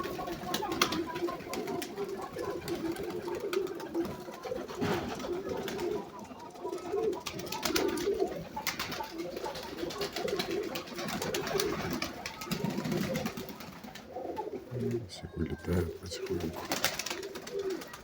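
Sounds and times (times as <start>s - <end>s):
wings flapping: 0.0s - 15.0s, 16.2s - 18.0s
pigeons cooing: 0.0s - 18.0s.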